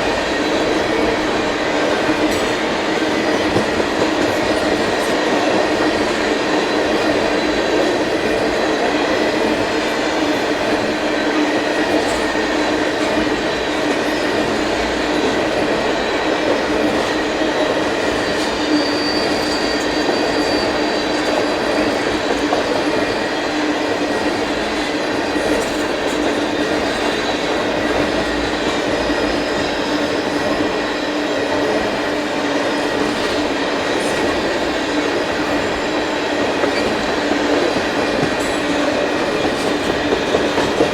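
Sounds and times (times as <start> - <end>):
freight train rumbling on rails: 0.0 - 40.9.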